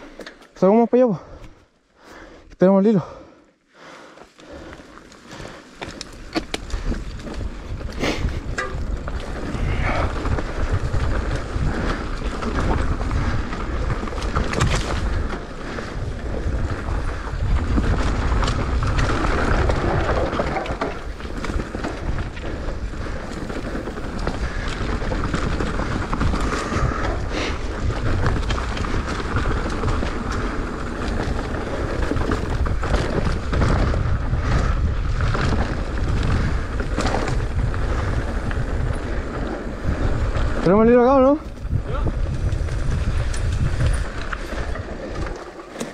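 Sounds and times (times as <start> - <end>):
bike rattling: 3.9 - 45.9
wind buffeting microphone: 5.3 - 45.3.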